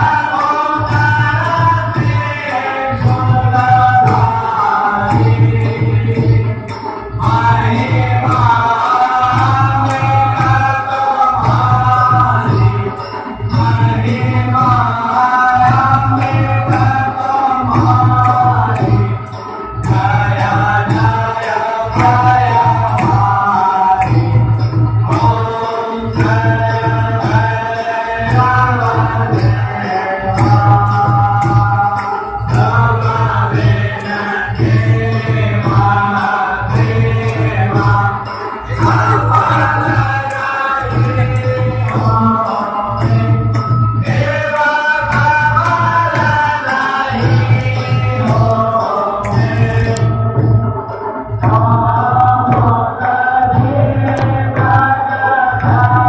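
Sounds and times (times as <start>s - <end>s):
voices singing devotional music: 0.0s - 56.0s.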